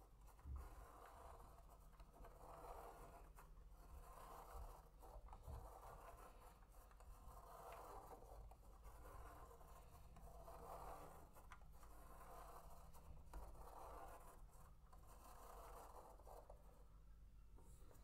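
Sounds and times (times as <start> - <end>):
pen scratching on paper: 0.2 - 16.9.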